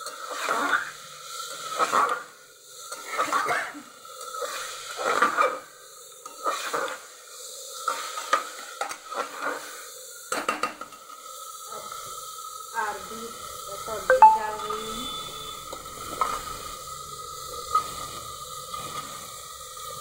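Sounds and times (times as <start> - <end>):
low sizzle: 0.0 - 10.3, 11.0 - 20.0.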